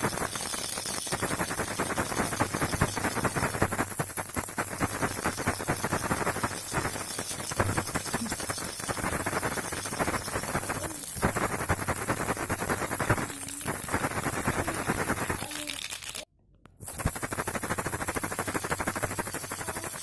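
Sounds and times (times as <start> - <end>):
baby rattle shaken: 0.0 - 20.0.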